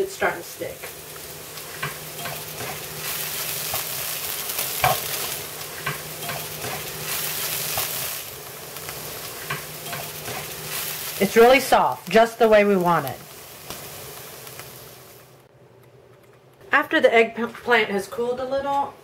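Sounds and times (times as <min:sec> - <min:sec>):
eggplant sizzling in oil: 0:00.0 - 0:15.5.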